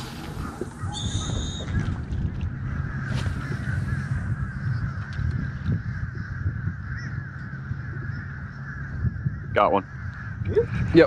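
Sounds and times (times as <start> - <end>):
birds chattering and chirping: 0.0 - 11.0
steady low rumble: 0.0 - 11.0.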